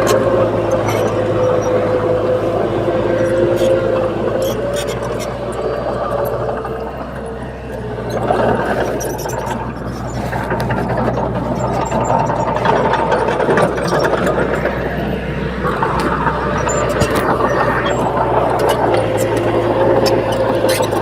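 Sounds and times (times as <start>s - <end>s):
bulldozer diesel engine running: 0.0s - 21.0s
small clicks and rattles: 3.1s - 21.0s.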